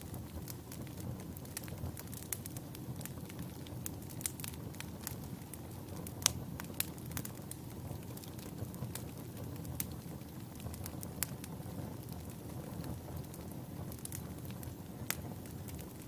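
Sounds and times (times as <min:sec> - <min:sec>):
burning logs crackling and popping: 0:00.0 - 0:16.0
low rumble of flames: 0:00.0 - 0:16.0.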